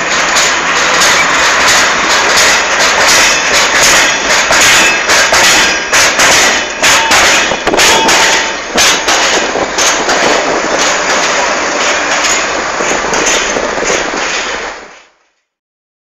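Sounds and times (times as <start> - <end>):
tamping machine clattering: 0.0 - 15.1
sharp irregular knocks: 0.2 - 14.5.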